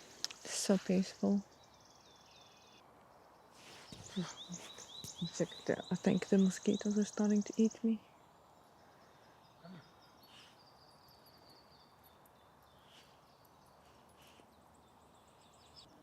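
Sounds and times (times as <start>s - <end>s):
songbird trilling and chirping: 0.4s - 16.0s.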